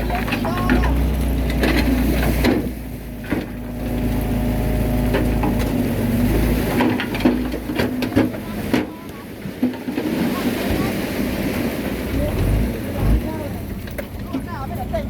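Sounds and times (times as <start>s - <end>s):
bulldozer diesel engine: 0.0s - 15.0s.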